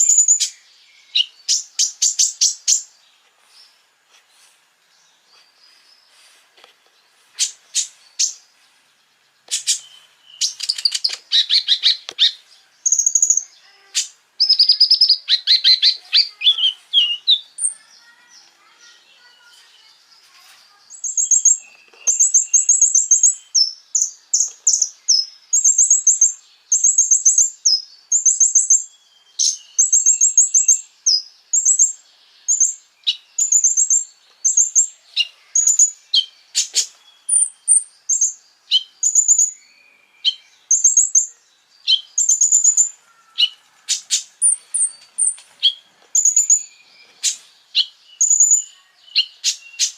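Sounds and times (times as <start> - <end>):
bird singing trills and chirps: 0.0 - 4.0, 4.8 - 49.9.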